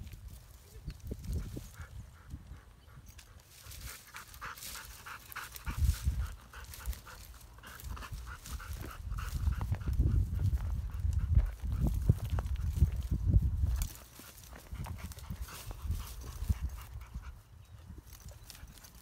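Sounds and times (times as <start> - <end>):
dog panting rapidly: 1.4 - 17.6.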